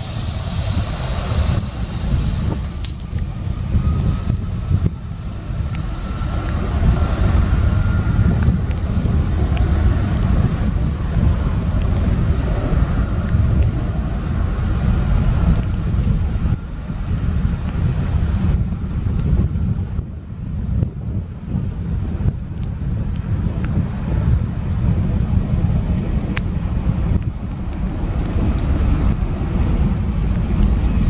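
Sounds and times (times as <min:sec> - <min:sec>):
faint jet engine whine: 0:00.0 - 0:31.0
jet engines rumbling: 0:00.0 - 0:31.0.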